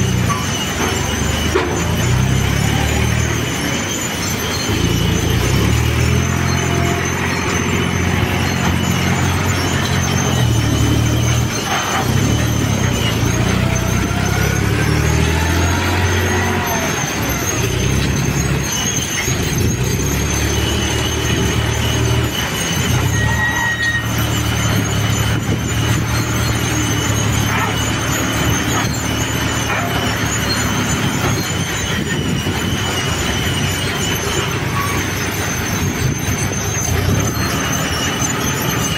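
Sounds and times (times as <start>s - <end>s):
tractor diesel engine under load: 0.0s - 38.9s
wavering high-pitched tones: 0.0s - 38.9s.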